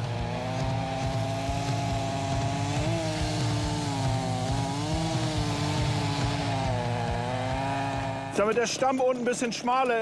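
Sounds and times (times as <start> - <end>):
chainsaw cutting wood: 0.0 - 10.0.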